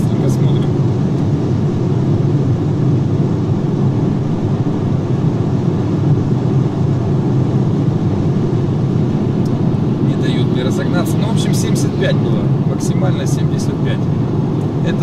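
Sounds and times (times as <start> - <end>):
road and wind noise in car cabin: 0.0 - 15.0.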